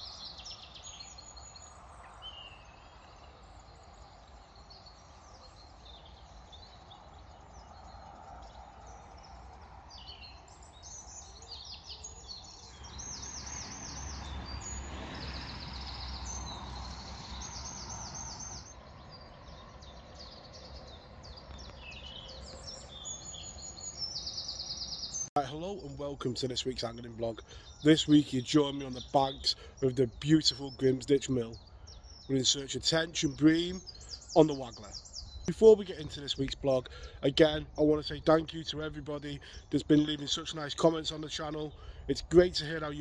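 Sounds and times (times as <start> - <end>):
outdoor background noise: 0.0 - 43.0
small birds chirping: 0.0 - 43.0.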